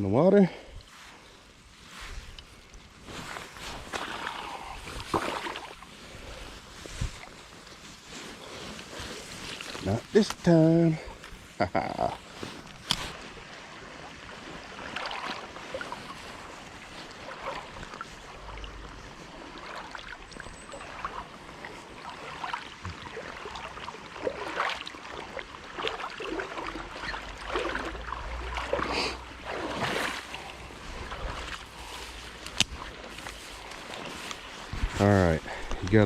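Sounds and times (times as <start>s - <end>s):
wading steps splashing in water: 1.0s - 36.0s.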